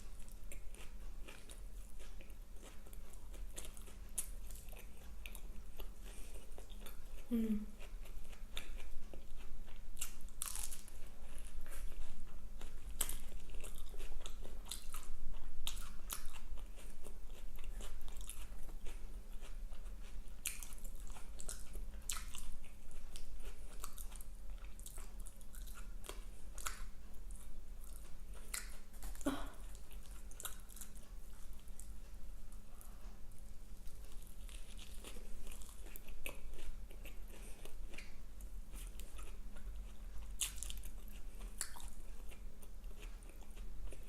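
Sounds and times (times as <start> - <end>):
chewing crunches: 0.0 - 32.0, 33.4 - 44.0
low steady hum: 0.0 - 44.0.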